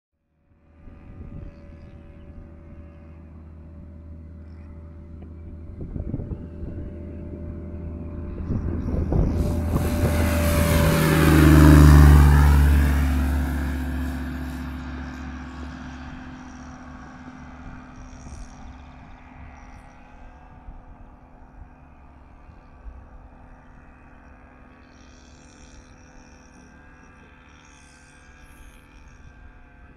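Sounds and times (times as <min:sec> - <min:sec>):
propeller plane passing: 0:00.3 - 0:29.9.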